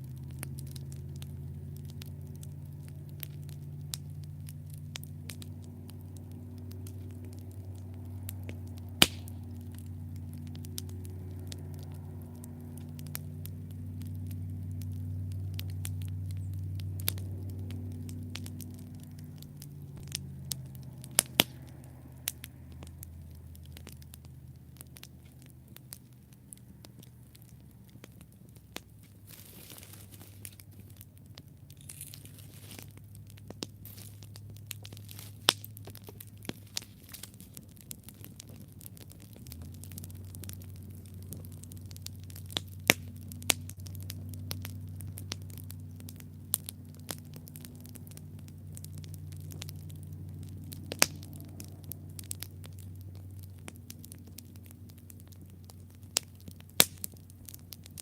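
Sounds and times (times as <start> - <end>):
campfire crackling and popping: 0.0 - 58.0
low rumble: 0.0 - 58.0.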